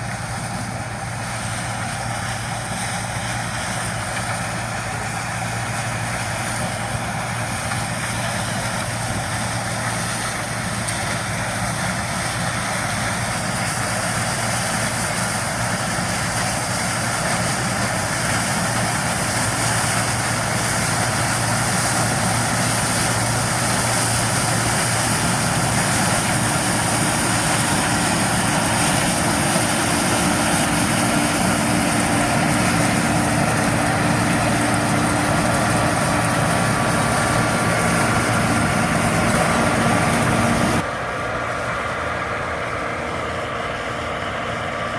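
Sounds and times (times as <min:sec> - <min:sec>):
combine harvester machinery whir: 0:00.0 - 0:44.9.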